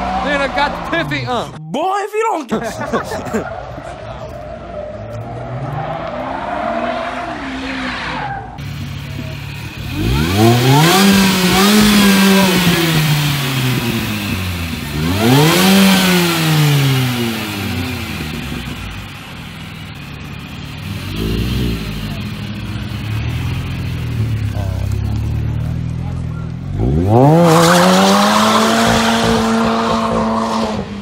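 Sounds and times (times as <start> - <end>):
car engine revving: 2.6 - 31.0.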